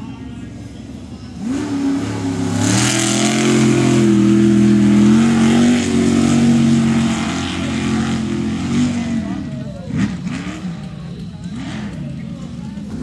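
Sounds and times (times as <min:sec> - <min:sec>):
truck engine revving hard: 0:01.2 - 0:13.0.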